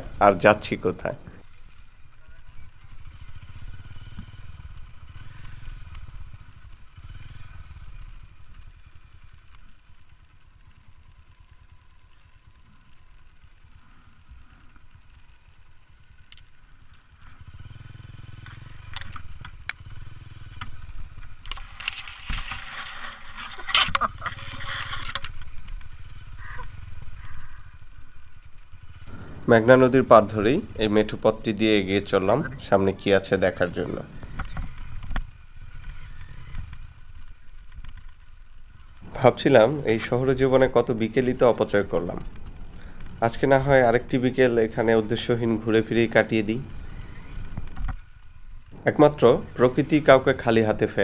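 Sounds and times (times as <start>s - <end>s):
motorcycle engine rumbling: 0.0s - 51.0s
rush of noise with sharp crackles: 0.0s - 51.0s.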